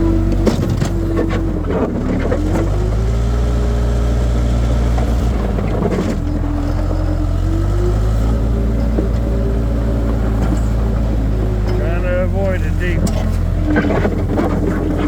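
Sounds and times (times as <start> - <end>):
skid steer engine and hydraulics whine: 0.0 - 15.0.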